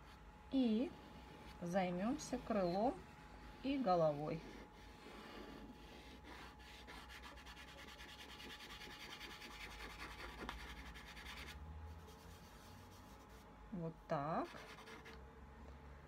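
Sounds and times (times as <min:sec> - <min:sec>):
pastel stick scratching on paper: 0:00.9 - 0:13.5, 0:14.4 - 0:15.2.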